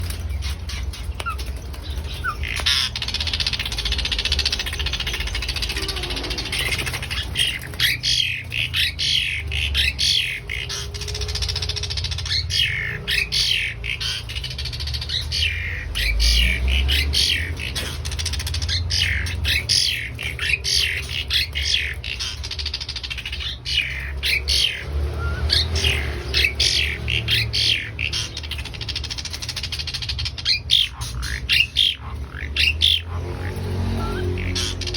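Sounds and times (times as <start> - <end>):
starling singing: 0.0 - 34.9.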